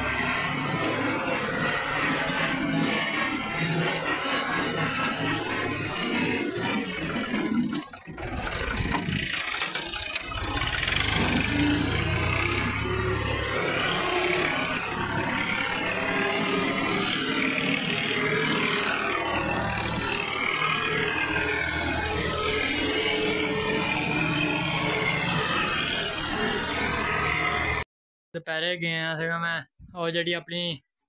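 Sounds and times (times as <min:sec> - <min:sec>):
tractor engine running: 0:00.0 - 0:27.8.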